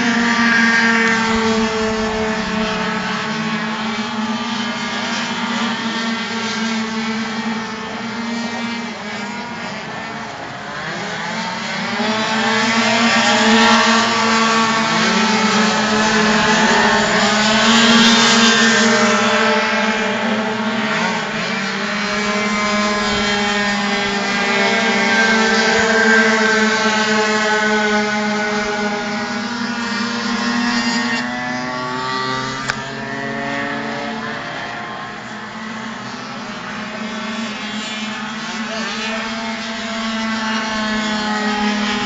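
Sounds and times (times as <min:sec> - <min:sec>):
racing scooter engines: 0:00.0 - 0:42.0.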